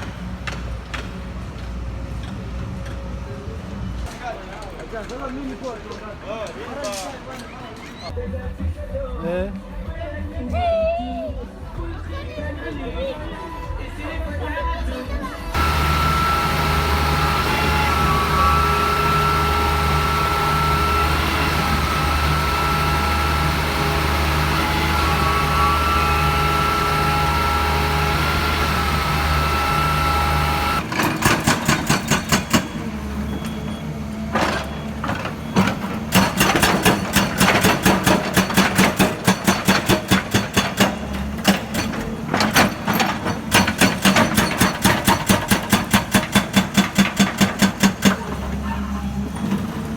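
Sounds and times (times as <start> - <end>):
heavy vehicle engine running: 0.0 - 8.0, 15.5 - 49.9.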